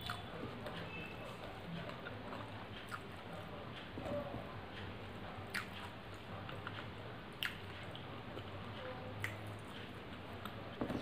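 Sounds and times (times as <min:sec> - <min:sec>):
person chewing with wet smacks: 0:00.0 - 0:04.5, 0:05.2 - 0:11.0.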